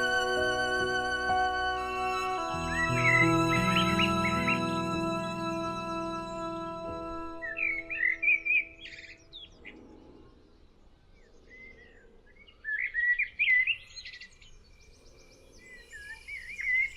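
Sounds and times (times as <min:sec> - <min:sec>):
bird singing warbling phrases: 0:00.0 - 0:16.9.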